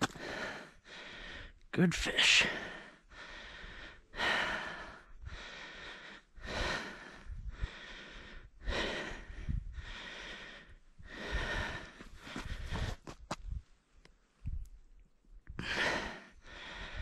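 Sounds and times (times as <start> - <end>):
person breathing hard: 0.0 - 1.6, 2.3 - 13.2, 15.6 - 17.0.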